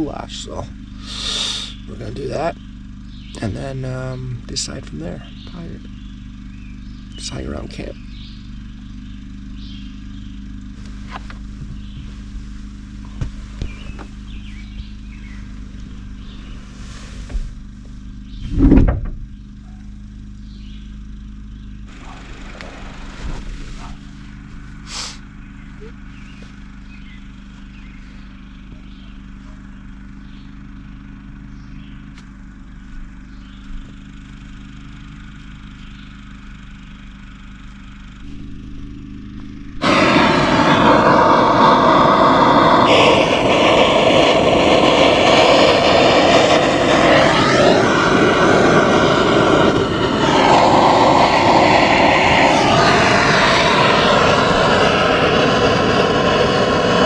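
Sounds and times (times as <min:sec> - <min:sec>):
gas torch roaring: 0:00.0 - 0:19.4, 0:21.5 - 0:29.1, 0:38.0 - 0:57.0
low steady hum: 0:00.0 - 0:56.9.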